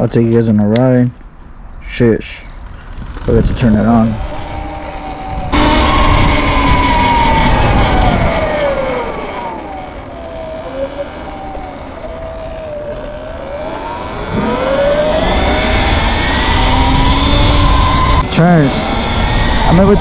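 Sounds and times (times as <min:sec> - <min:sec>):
low rumble: 0:02.9 - 0:20.0
electric motor whine: 0:03.2 - 0:20.0.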